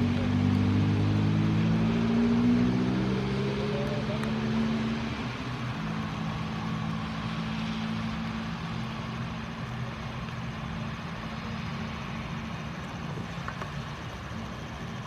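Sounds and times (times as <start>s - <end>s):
jet engines humming: 0.0s - 15.0s.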